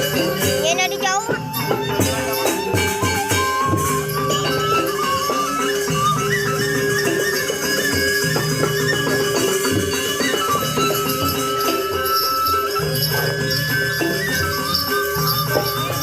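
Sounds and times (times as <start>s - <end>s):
metallophone and gong tones: 0.0s - 16.0s
small cymbals jangling: 0.0s - 16.0s.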